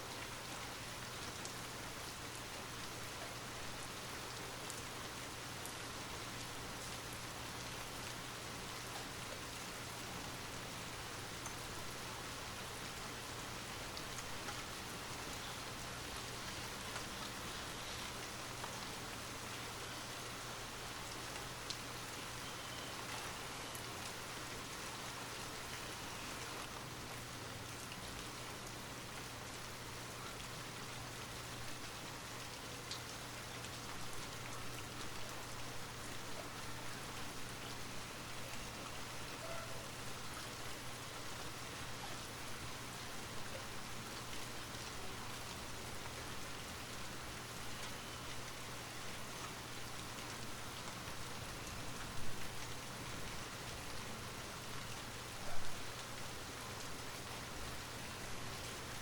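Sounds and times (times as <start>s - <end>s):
steady light rain: 0.0s - 59.0s
faint raindrop ticks: 0.2s - 59.0s.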